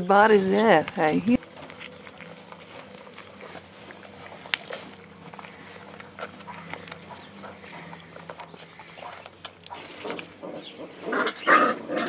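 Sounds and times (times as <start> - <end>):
puppies suckling: 0.1 - 12.0.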